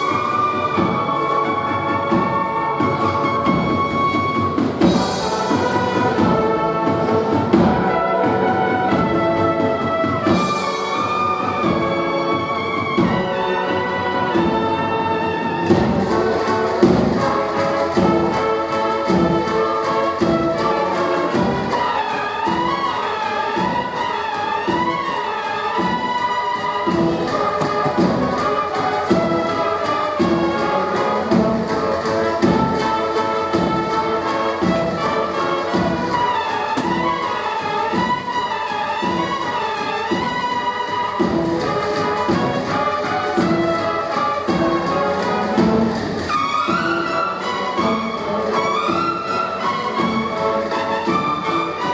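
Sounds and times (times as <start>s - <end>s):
drums beating: 0.0s - 51.9s.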